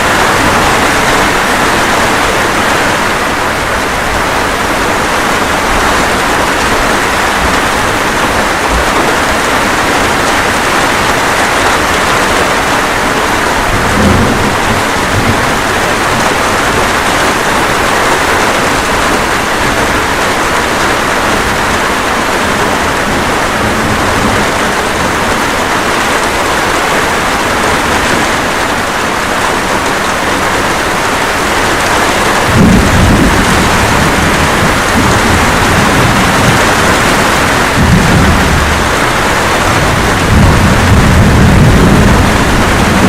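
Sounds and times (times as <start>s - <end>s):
steady rain falling: 0.0s - 43.0s
thunder rumbling: 0.0s - 43.0s.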